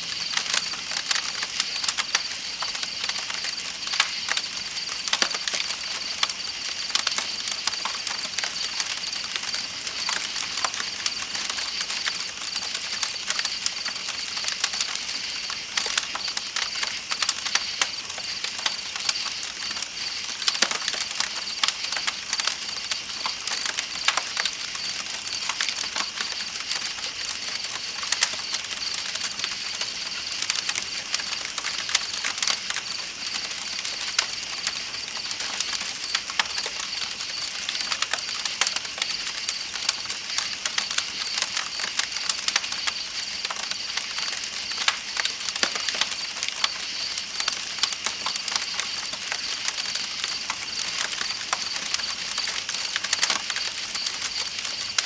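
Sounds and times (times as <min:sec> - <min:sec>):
night insects droning: 0:00.0 - 0:55.0
campfire crackling and popping: 0:00.1 - 0:55.0.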